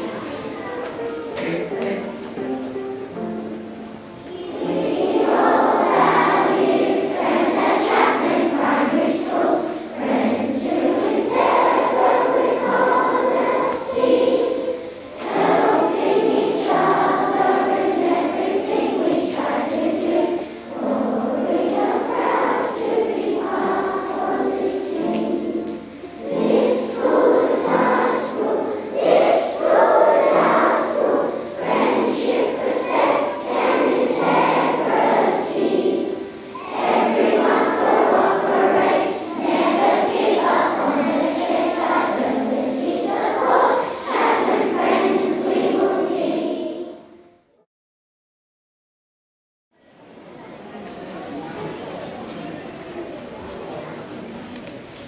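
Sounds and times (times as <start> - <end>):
children's choir singing: 0.0 - 47.6, 49.8 - 55.0.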